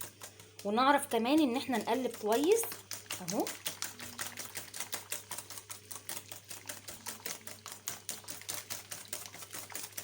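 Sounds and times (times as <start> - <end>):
whisk clicking against bowl: 0.0 - 10.0.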